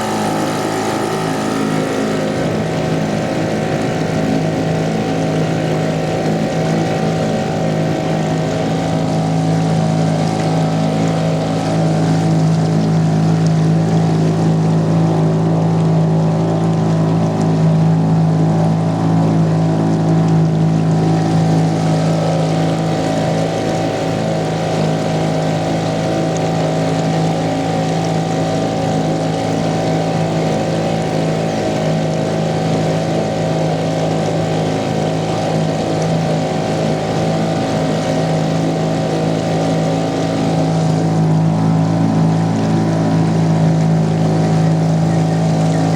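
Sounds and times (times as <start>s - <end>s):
outboard motor running: 0.0s - 45.9s
water noise: 0.0s - 45.9s.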